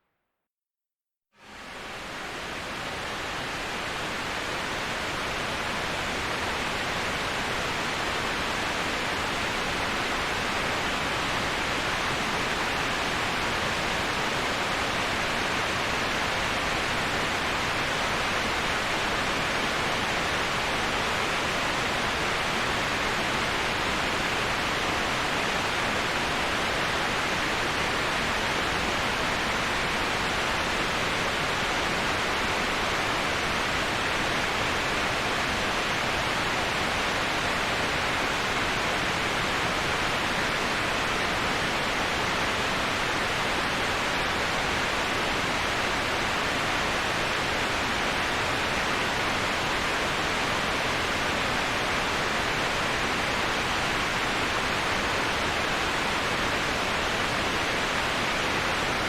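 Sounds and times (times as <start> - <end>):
waterfall rushing: 1.7 - 59.0.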